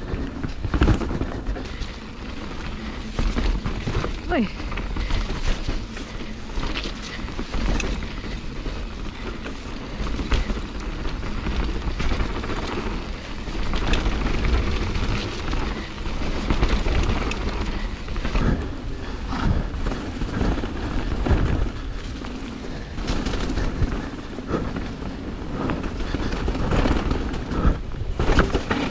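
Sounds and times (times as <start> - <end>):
bike clicks and rattles: 0.0 - 28.9
rushing tyre and wind noise: 0.0 - 28.9.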